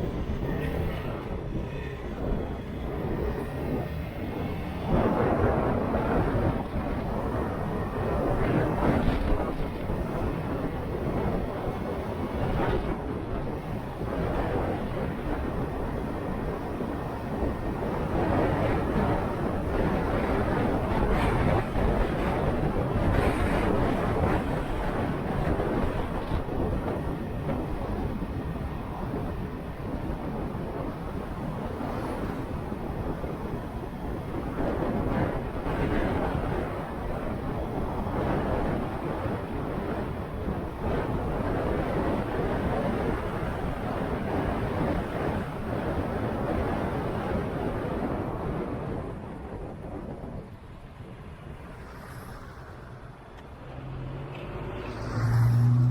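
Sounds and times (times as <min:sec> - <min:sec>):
motorcycle road noise: 0:00.0 - 0:55.9
wind rushing over microphone: 0:00.0 - 0:55.9.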